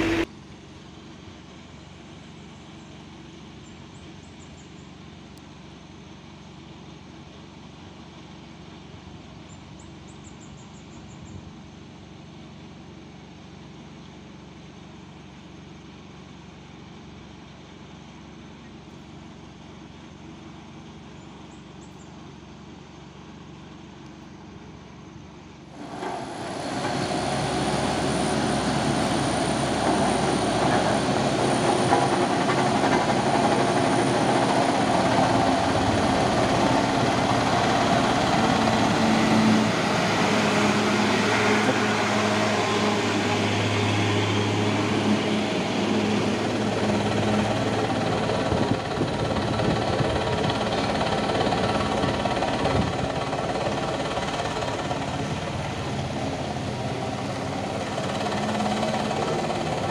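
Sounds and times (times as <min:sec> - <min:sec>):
road roller engine humming: 0:00.0 - 0:59.9.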